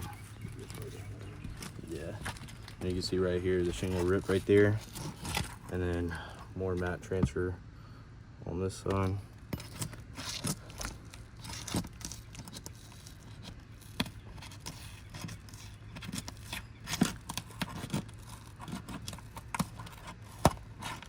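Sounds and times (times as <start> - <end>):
shingles tearing and crackling: 0.0 - 6.3, 9.4 - 21.0.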